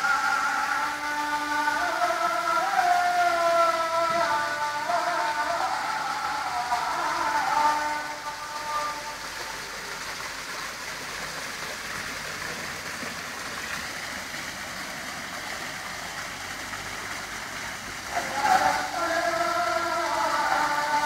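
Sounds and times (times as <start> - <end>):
waterfall splashing into pool: 0.0 - 21.0.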